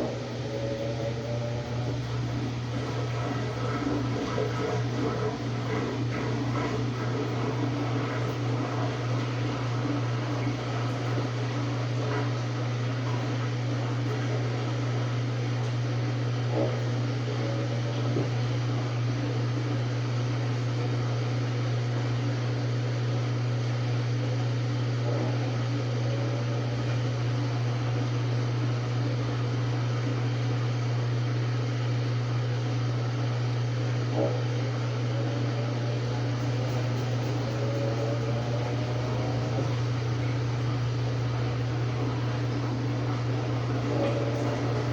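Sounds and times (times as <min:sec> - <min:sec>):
washing machine humming: 0:00.0 - 0:44.9.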